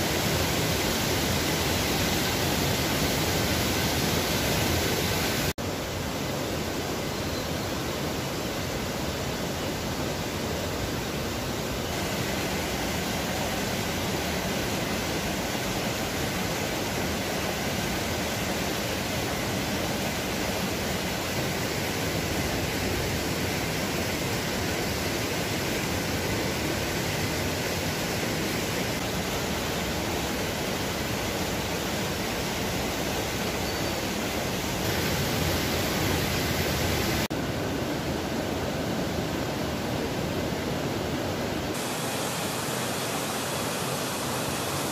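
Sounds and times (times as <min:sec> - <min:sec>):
mountain stream rushing: 0:00.0 - 0:44.9.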